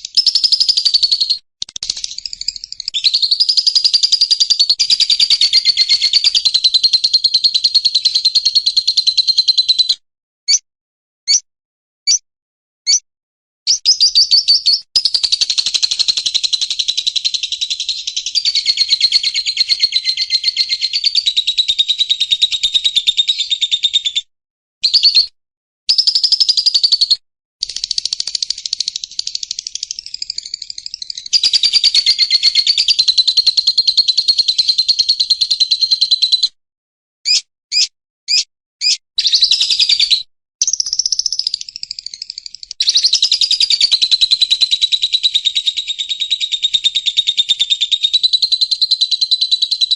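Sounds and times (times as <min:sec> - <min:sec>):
bird singing rapid trills: 0:00.0 - 0:10.6, 0:13.7 - 0:24.1, 0:25.9 - 0:36.5, 0:37.3 - 0:49.9.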